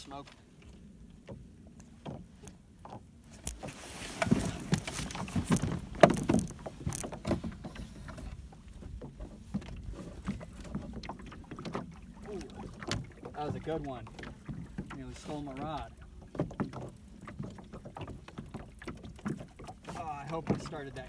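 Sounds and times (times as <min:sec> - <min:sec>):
knocks and clatter in boat: 0:00.0 - 0:21.0.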